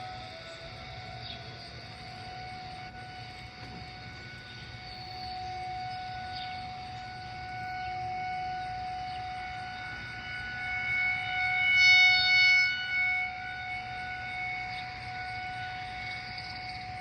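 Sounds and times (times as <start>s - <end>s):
warning siren steady tone: 0.0s - 17.0s.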